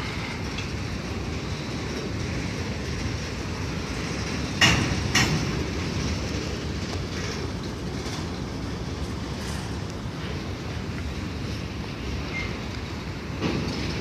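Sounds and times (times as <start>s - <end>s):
freight train wheels rumbling on rail: 0.0s - 14.0s.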